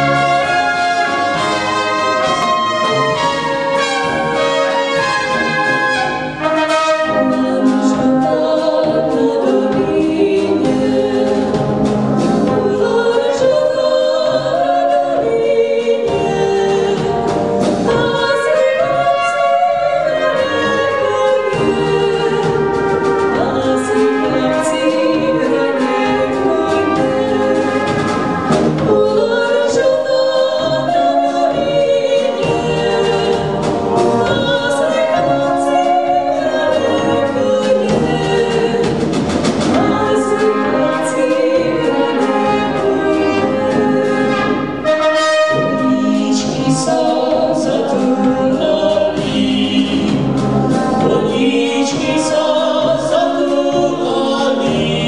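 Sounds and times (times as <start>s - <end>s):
women singing: 0.0s - 11.8s, 12.4s - 28.2s, 28.8s - 55.0s
brass band playing: 0.0s - 55.0s.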